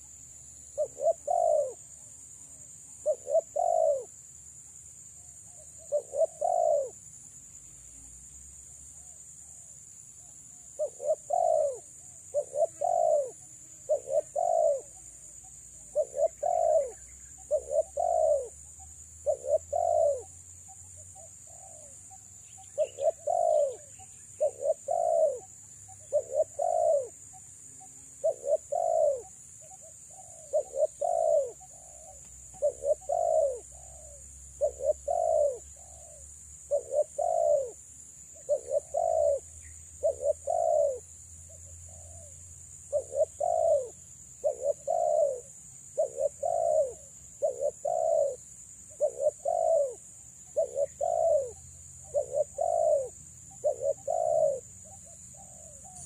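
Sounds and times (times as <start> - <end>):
dove cooing: 0.0 - 4.2, 5.4 - 7.0, 10.5 - 56.0.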